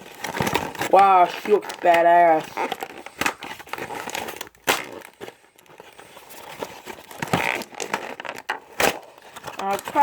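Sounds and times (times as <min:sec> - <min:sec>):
plastic and cardboard rustling: 0:00.0 - 0:10.0.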